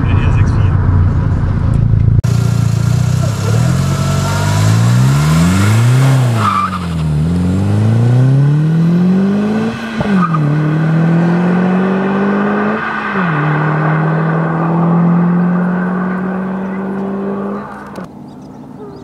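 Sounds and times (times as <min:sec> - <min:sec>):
turbocharged car engine accelerating: 0:00.0 - 0:18.1.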